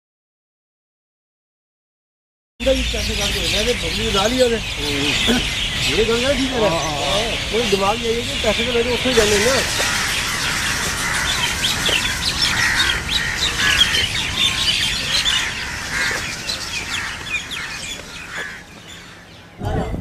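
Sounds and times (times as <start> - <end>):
birds chirping chorus: 2.6 - 20.0.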